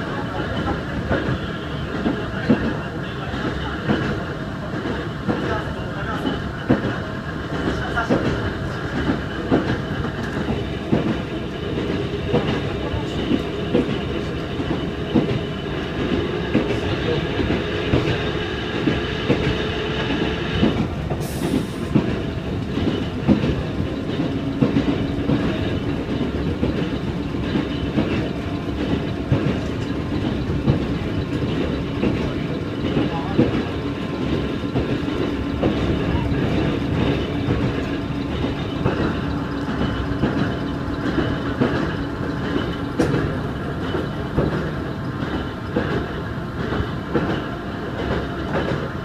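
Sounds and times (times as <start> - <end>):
train motor and gear hum: 0.0 - 49.0
wheels clacking over rail joints: 6.2 - 49.0.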